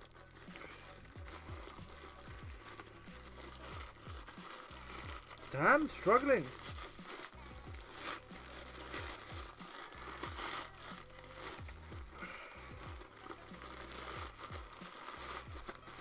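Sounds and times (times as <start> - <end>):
faint background music: 0.0 - 16.0
packaging crinkling and tearing: 0.0 - 16.0.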